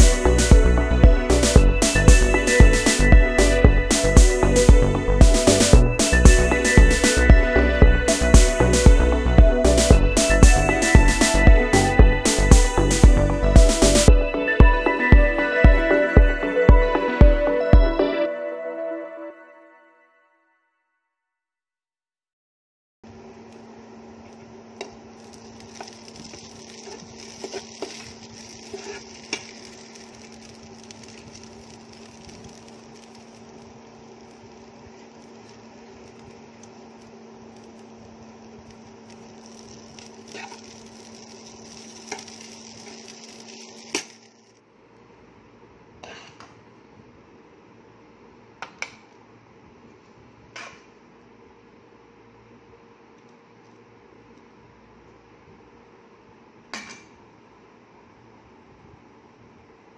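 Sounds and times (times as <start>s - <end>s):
steady hiss and hum: 0.0s - 17.7s, 23.1s - 59.9s.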